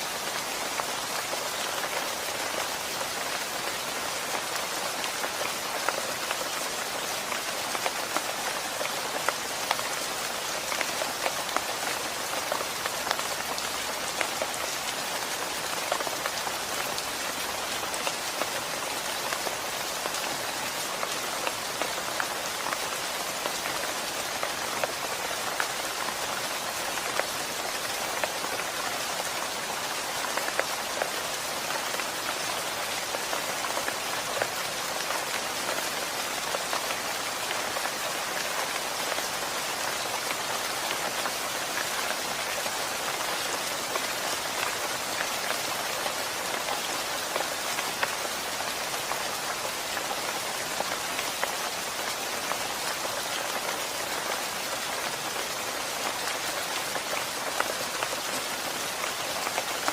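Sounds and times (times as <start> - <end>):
rain hiss: 0.0 - 59.9
raindrops ticking on a surface: 0.0 - 59.9.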